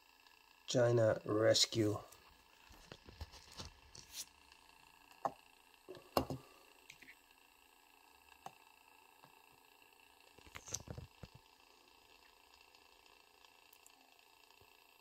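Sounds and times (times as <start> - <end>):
motorised turntable hum: 0.0 - 15.0.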